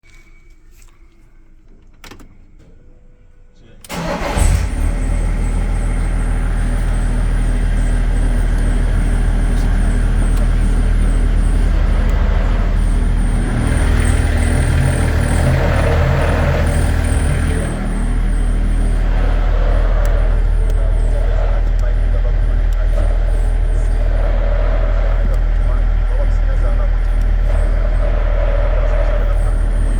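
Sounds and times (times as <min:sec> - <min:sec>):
diesel engine starting and running: 0:03.8 - 0:29.9.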